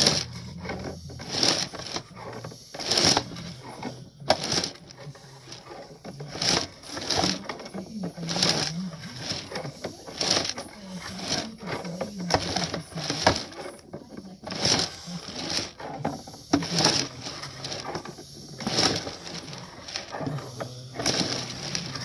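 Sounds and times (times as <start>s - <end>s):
push rod rubbing and rattling in pipe: 0.0s - 22.0s.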